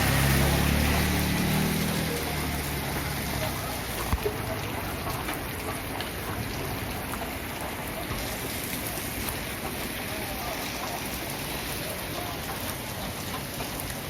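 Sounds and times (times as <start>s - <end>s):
steady rain falling: 0.0s - 14.0s
water dripping: 0.0s - 14.0s.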